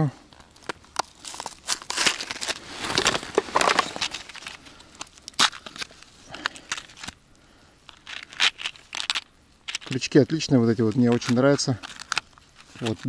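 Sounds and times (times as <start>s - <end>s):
hook packets rustling: 0.3s - 7.2s, 7.8s - 13.0s.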